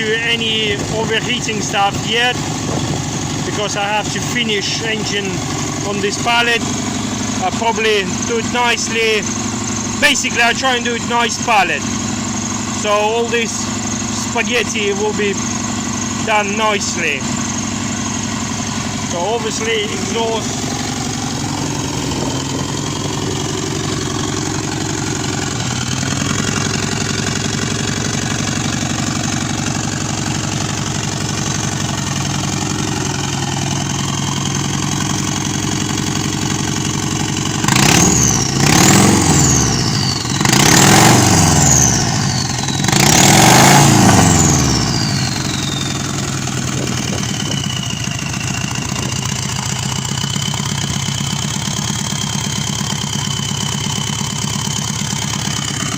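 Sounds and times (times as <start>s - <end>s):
car engine idling and revving: 0.0s - 55.9s
high turbo whine: 0.0s - 55.9s.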